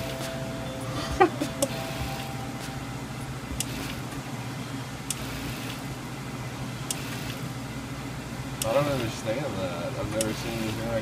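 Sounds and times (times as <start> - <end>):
rotary evaporator hum: 0.0 - 11.0.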